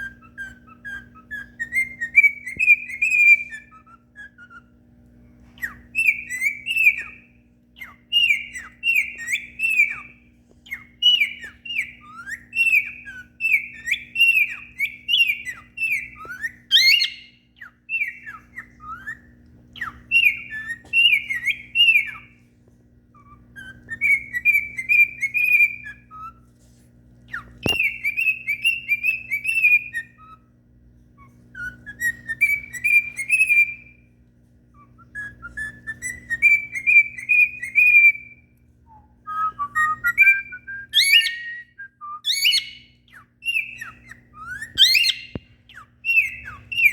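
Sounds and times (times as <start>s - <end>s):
cockatiel whistling: 0.0s - 4.8s, 5.4s - 22.4s, 23.1s - 26.5s, 27.3s - 30.6s, 31.2s - 34.1s, 34.7s - 46.9s.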